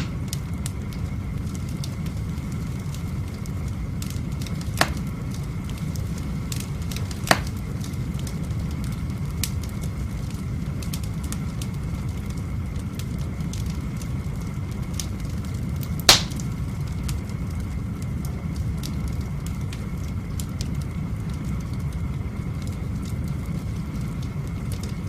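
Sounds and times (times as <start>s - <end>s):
fire rumbling: 0.0s - 25.0s
logs popping and crackling: 0.0s - 25.0s.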